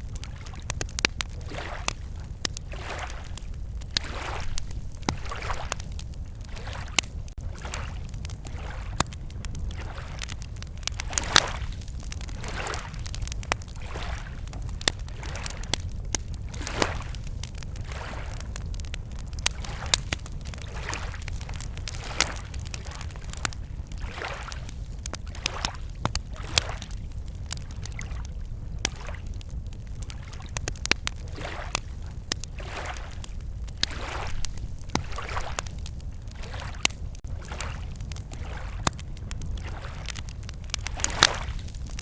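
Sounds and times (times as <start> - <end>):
campfire crackling: 0.0 - 42.0
lake waves lapping: 0.1 - 15.8, 16.4 - 29.3, 31.2 - 39.0, 39.6 - 42.0.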